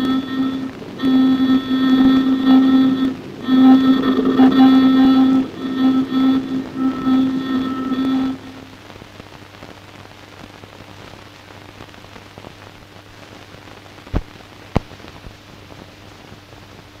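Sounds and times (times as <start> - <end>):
faint steady hum: 0.0 - 17.0
film soundtrack crackle and hiss: 0.0 - 17.0.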